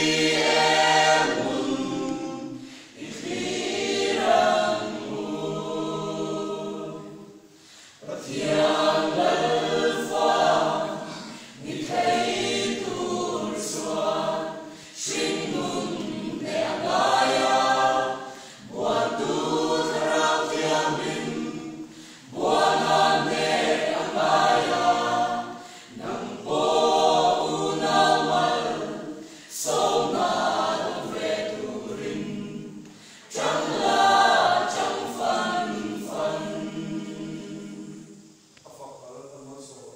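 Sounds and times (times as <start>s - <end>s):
choir singing a cappella: 0.0s - 38.6s.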